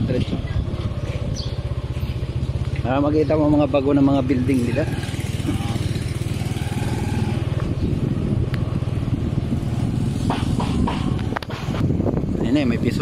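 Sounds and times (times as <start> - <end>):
small motorcycle engine drone: 0.0 - 12.4
road and wind noise: 0.0 - 13.0.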